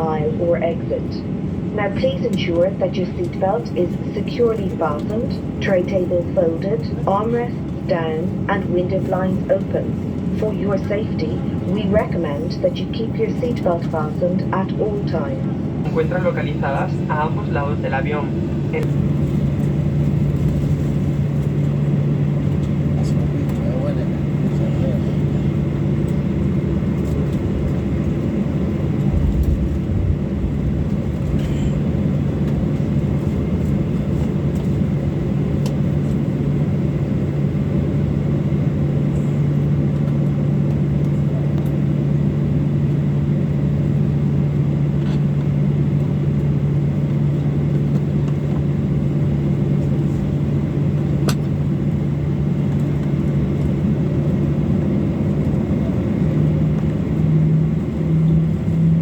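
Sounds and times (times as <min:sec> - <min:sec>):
jet engines humming at taxi power: 0:00.0 - 0:59.0.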